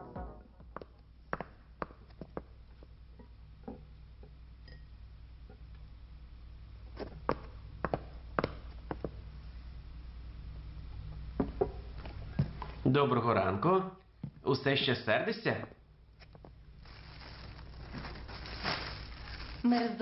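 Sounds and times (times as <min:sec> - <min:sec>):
low steady hum: 0:00.0 - 0:14.7, 0:15.6 - 0:20.0.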